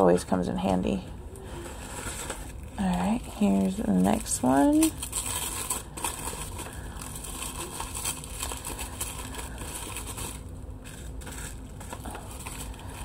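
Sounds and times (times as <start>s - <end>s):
paper and plastic rustling: 0.1s - 13.0s.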